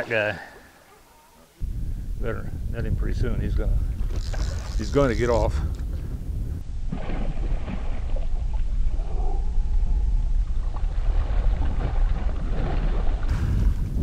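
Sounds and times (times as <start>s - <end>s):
wind rumble on microphone: 1.6s - 14.0s.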